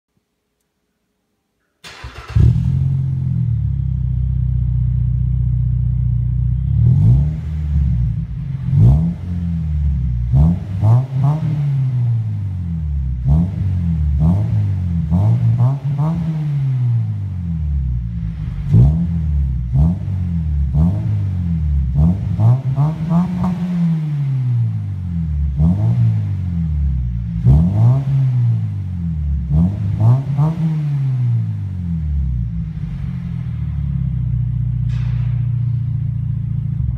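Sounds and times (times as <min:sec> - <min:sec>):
car engine starting and revving: 0:01.8 - 0:36.9.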